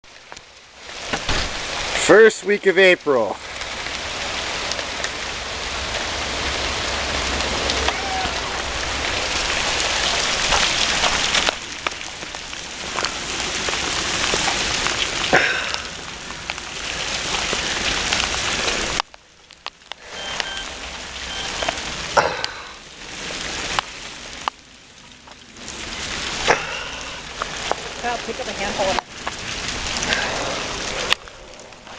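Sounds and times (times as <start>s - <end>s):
heavy hail pelting: 0.2s - 24.6s, 25.2s - 31.9s.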